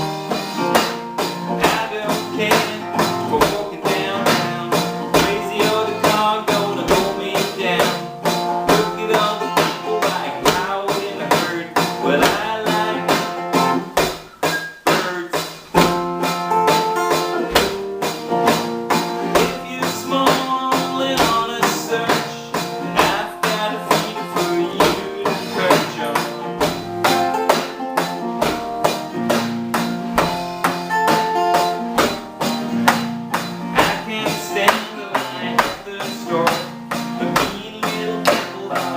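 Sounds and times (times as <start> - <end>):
guitar playing: 0.0 - 38.9
percussive beat: 0.0 - 38.9.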